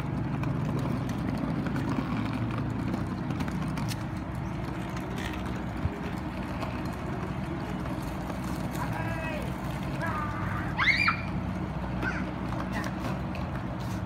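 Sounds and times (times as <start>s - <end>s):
plastic wheels rolling on pavement: 0.0s - 14.0s.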